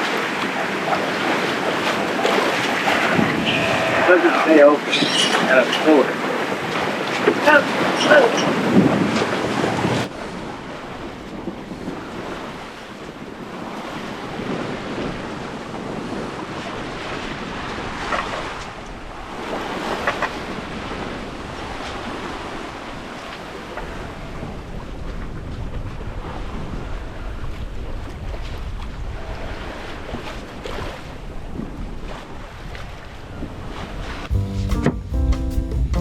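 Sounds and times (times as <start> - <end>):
waves washing along hull: 0.0 - 35.0
wind on microphone: 0.0 - 35.0.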